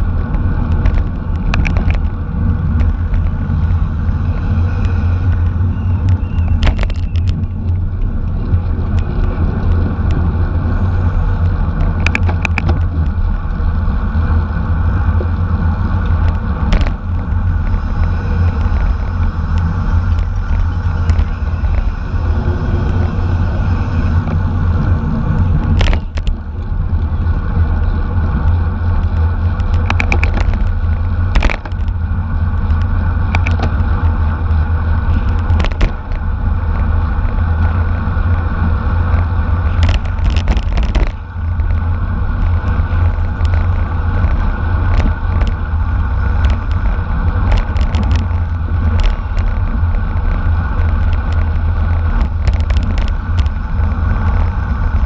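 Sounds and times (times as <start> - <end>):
road rumble: 0.0 - 55.0
wind rush: 0.0 - 55.0.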